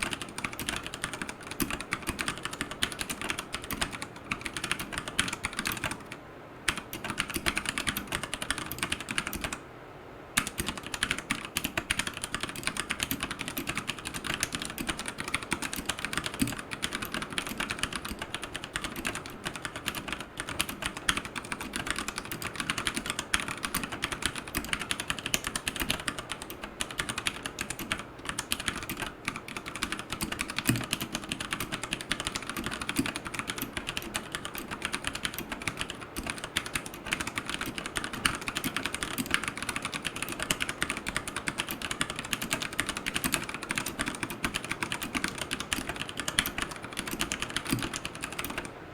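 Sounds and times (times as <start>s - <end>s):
mechanical keyboard typing: 0.0s - 9.6s, 10.4s - 48.8s.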